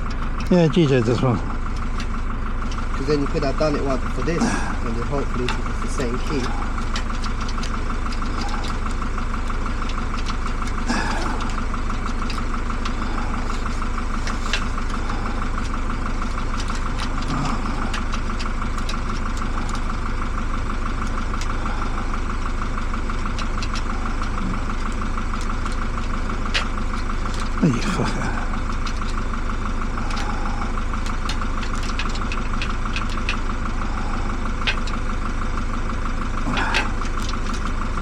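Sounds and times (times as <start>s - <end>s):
engine idling: 0.0s - 38.0s
sharp ticks: 0.0s - 38.0s.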